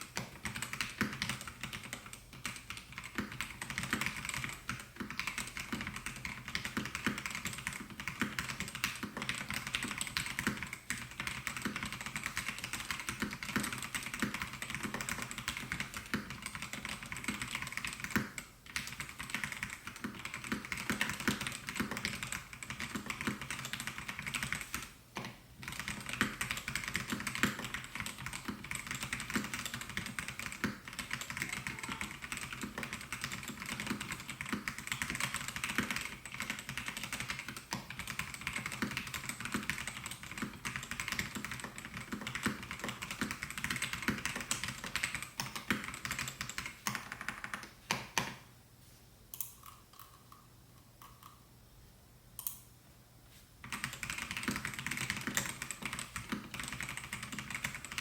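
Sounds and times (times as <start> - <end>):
mechanical keyboard typing: 0.0 - 24.9, 25.6 - 48.3, 53.6 - 58.0.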